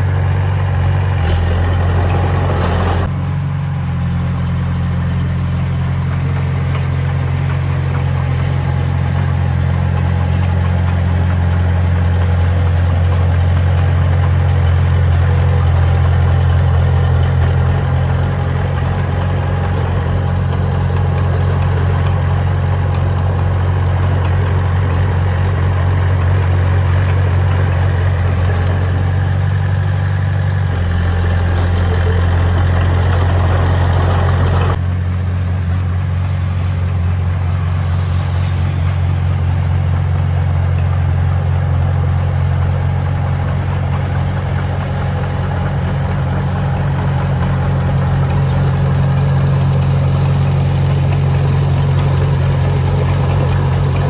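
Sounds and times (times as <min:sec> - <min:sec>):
heavy machinery diesel engine hum: 0:00.0 - 0:54.0.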